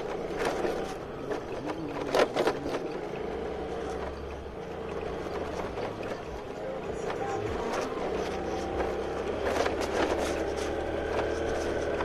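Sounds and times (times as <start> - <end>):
motor scooter engine running: 0.0 - 12.0
road and wind noise: 0.0 - 12.0.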